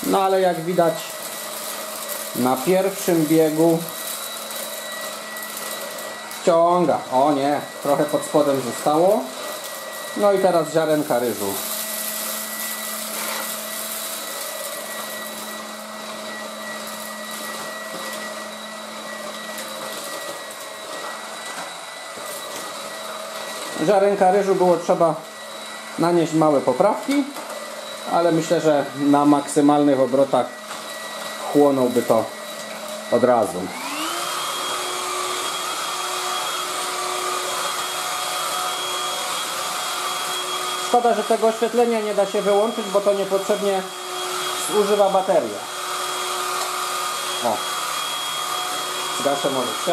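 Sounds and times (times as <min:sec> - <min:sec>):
stick vacuum running: 0:00.0 - 0:49.9.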